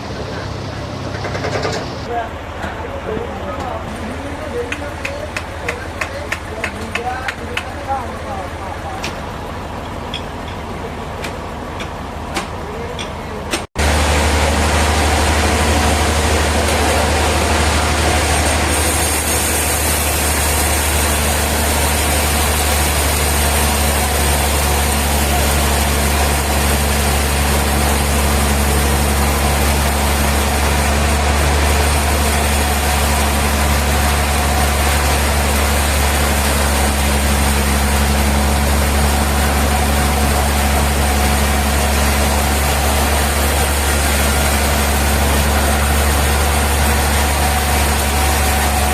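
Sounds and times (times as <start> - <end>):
sawmill machinery humming: 0.0 - 48.9.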